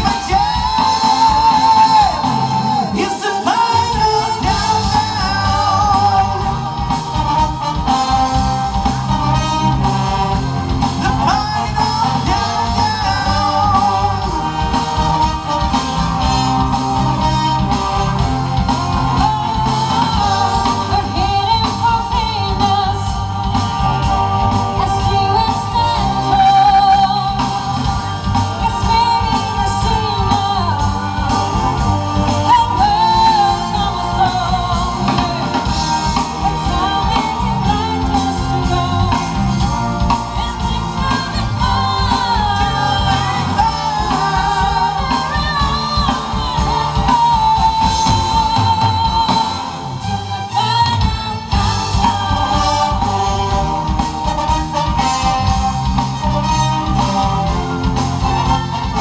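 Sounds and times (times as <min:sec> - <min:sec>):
symphony orchestra playing: 0:00.0 - 0:59.0
vocalists singing into microphones: 0:00.0 - 0:59.0.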